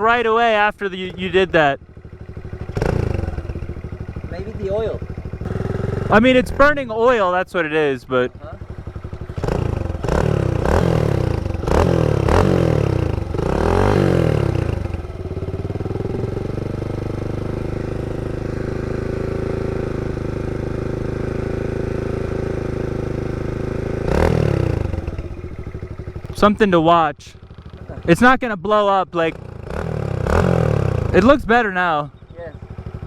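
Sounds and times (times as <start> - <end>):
mini bike engine revving and idling: 0.0 - 33.0.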